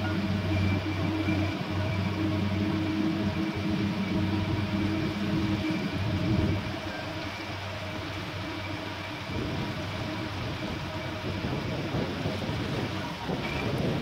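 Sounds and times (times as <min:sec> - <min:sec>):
engine drone: 0:00.0 - 0:14.0
wind and water hiss: 0:00.0 - 0:14.0.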